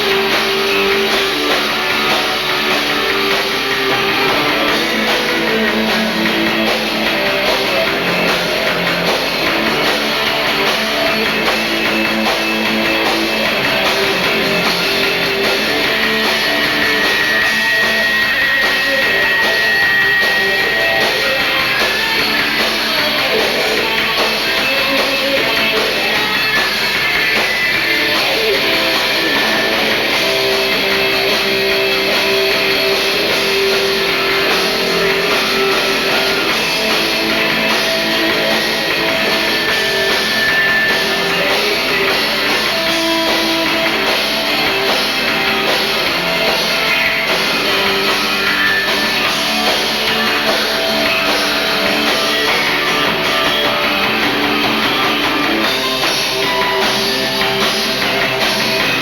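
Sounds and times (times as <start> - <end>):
band playing rock song: 0.0 - 59.0
drum kit: 0.0 - 59.0
electric guitar: 0.0 - 59.0.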